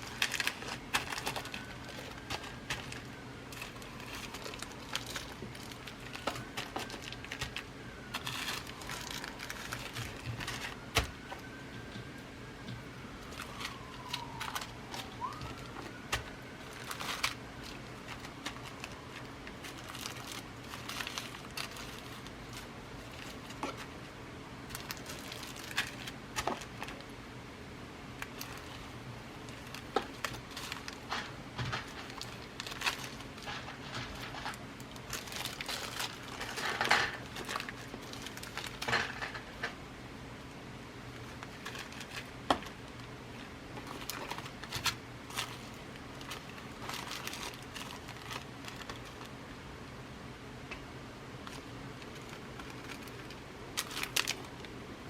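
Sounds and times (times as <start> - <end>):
packets crinkling: 0.0 - 11.9, 13.0 - 24.0, 24.6 - 27.1, 28.2 - 39.8, 41.2 - 49.5, 51.4 - 54.7.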